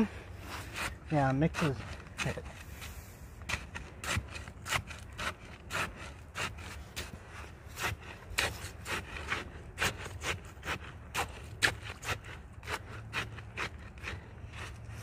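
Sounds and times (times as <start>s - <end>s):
rod scraping in wet concrete: 0.0s - 15.0s.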